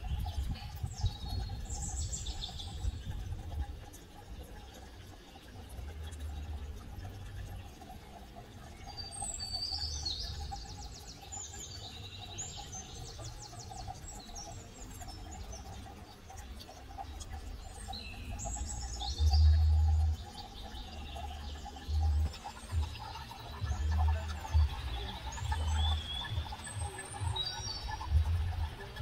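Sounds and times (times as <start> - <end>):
birds chirping and trilling: 0.0 - 29.0.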